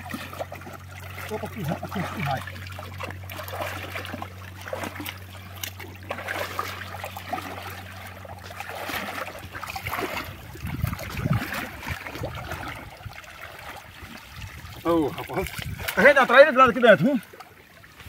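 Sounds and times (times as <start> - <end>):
low steady hum: 0.0 - 18.0
water splashing and trickling: 0.0 - 18.0.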